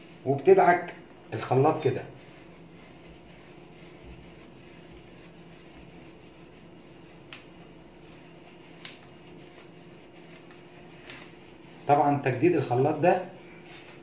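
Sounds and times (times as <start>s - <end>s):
steel wool scrubbing metal: 1.6s - 13.0s.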